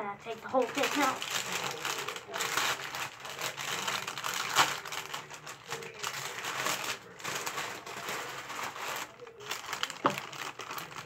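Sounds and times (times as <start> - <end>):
plastic bag crinkling: 0.2 - 11.0.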